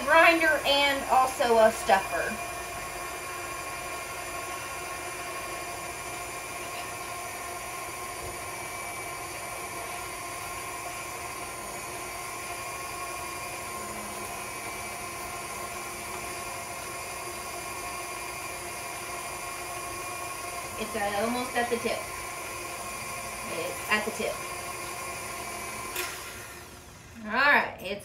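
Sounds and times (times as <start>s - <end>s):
stand mixer motor whine: 0.0s - 27.3s.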